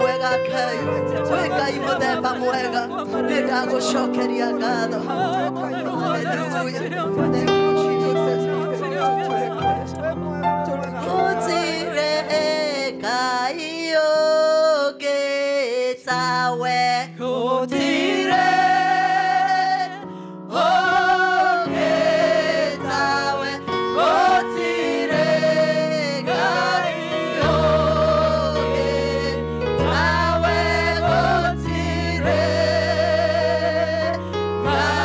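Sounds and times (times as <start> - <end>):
gospel choir singing: 0.0 - 35.0.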